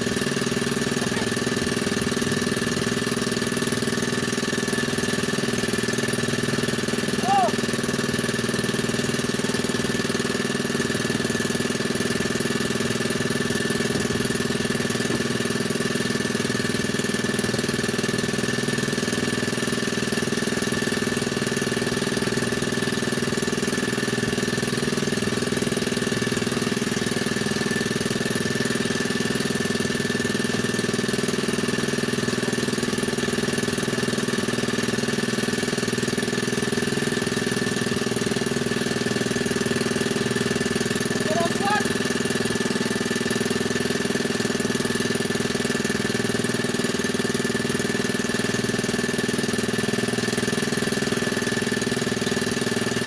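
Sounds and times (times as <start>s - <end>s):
small boat engine running: 0.0s - 53.0s.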